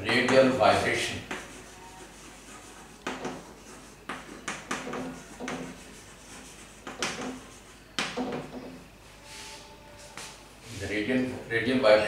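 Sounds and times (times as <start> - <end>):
chalk tapping and scraping: 0.0 - 10.9.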